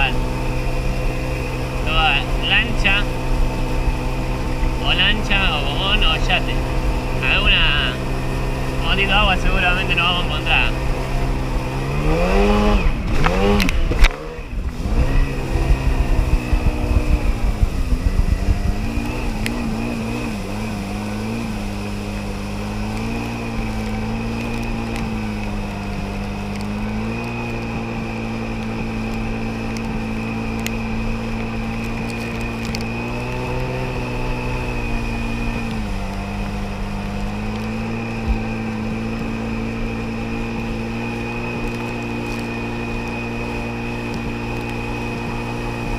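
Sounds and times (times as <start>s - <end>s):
jet ski engine droning: 0.0s - 45.9s.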